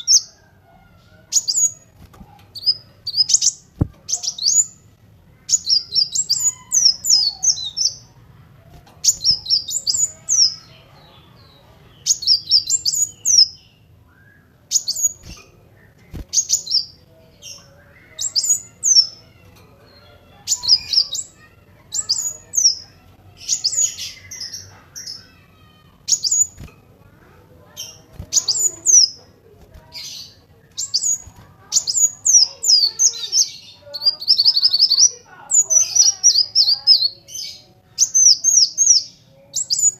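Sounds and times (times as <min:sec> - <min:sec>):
bird twittering chirps: 0:01.3 - 0:08.2, 0:09.0 - 0:19.4, 0:20.0 - 0:26.7, 0:27.7 - 0:39.9.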